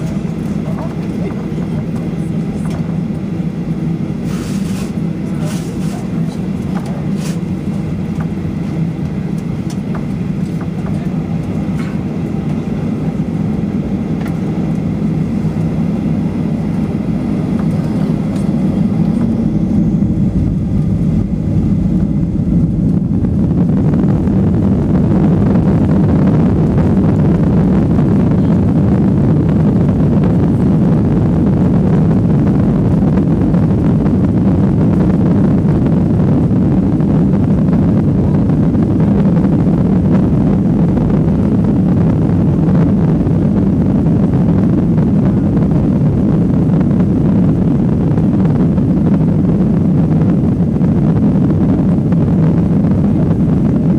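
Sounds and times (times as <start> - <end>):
jet cabin rumble and hum: 0.0 - 53.9.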